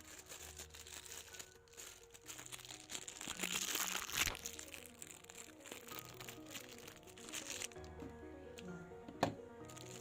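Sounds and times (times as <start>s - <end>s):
packaging crinkling: 0.0s - 8.2s, 9.6s - 10.0s
soft background music: 0.0s - 10.0s.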